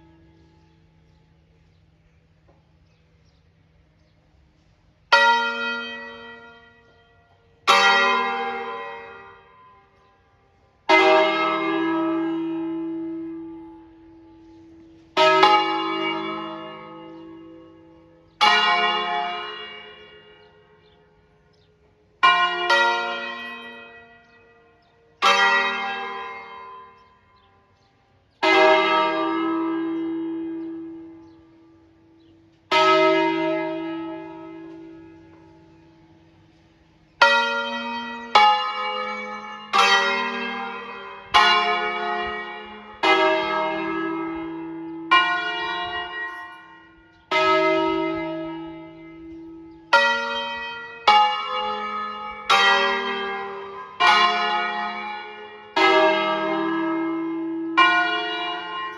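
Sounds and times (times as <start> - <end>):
church bells ringing: 0.0 - 58.9.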